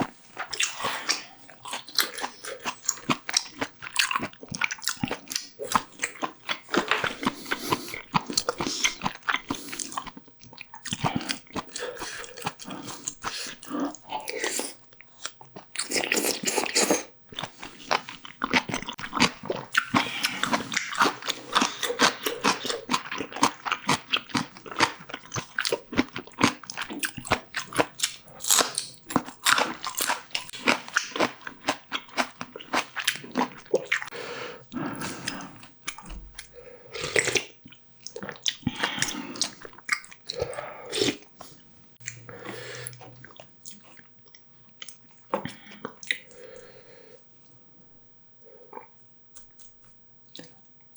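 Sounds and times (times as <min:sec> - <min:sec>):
chewing and crunching food: 0:00.0 - 0:47.6, 0:48.4 - 0:50.9.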